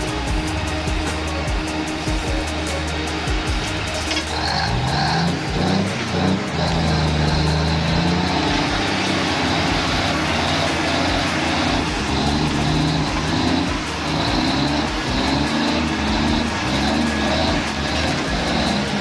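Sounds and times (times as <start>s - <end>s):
diesel truck engine straining: 0.0s - 19.0s.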